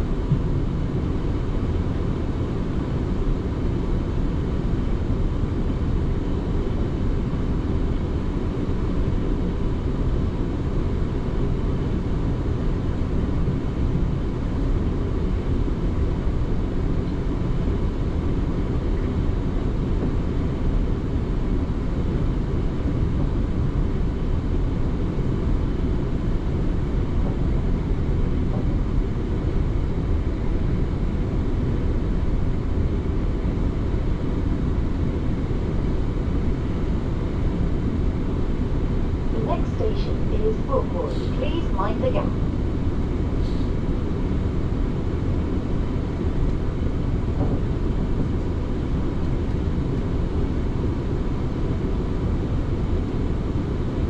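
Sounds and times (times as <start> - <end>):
faint steady whine: 0.0 - 54.0.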